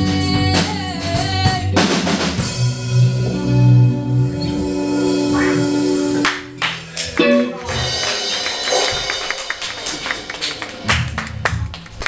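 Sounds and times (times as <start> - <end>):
rock band playing: 0.0 - 11.9.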